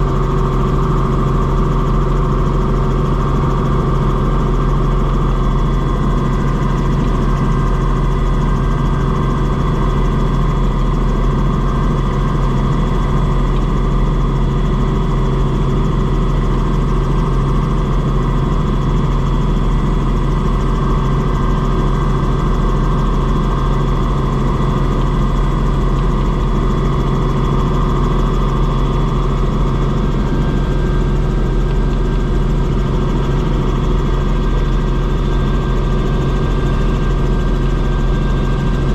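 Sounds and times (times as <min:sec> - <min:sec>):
helicopter rotor and engine drone: 0:00.0 - 0:38.9.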